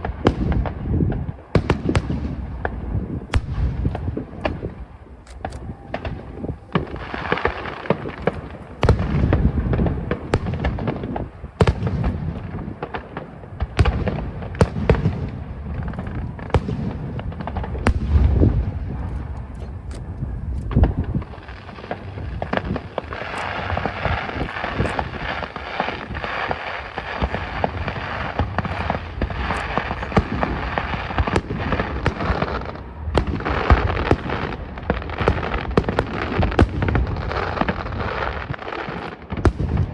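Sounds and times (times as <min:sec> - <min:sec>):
distant fireworks booms and cracks: 0:00.0 - 0:39.9
fireworks crackle: 0:00.0 - 0:39.9.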